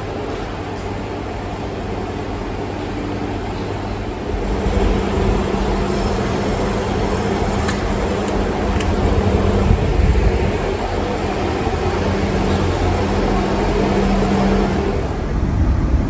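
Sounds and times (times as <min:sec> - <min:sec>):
train rumble inside carriage: 0:00.0 - 0:16.0
steady hum: 0:01.5 - 0:16.0.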